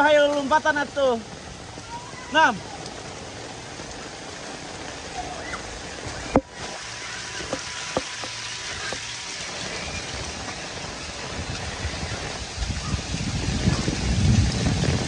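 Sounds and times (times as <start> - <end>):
drips ticking: 0.0 - 12.6
heavy rain pouring: 0.0 - 15.0.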